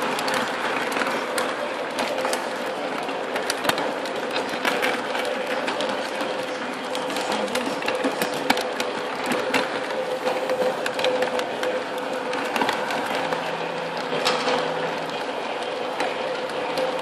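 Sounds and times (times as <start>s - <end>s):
wheels clicking over rail joints: 0.0s - 17.0s.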